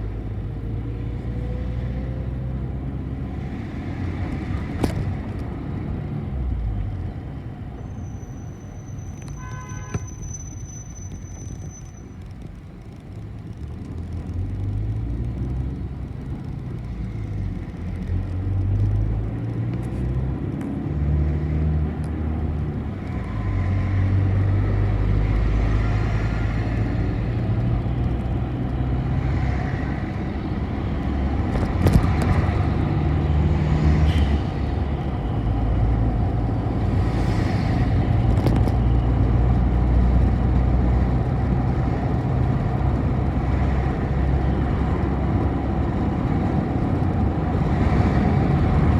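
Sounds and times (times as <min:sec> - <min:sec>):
bus engine humming: 0:00.0 - 0:48.9.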